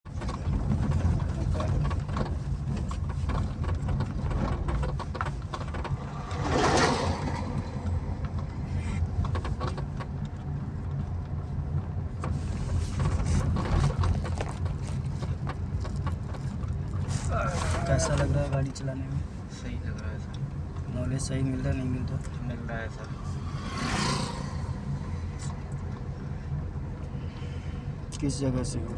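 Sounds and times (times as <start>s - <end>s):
car engine and road rumble: 0.0s - 28.9s.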